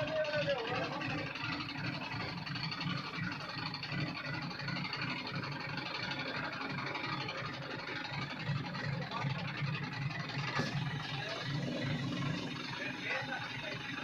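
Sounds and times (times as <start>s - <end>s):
vehicle engine throbbing: 0.0s - 14.0s.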